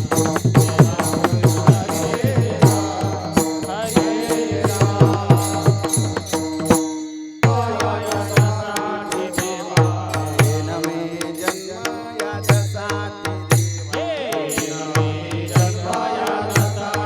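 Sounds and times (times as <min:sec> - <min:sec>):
devotional music: 0:00.0 - 0:17.0
sharp percussion hits: 0:00.0 - 0:17.0.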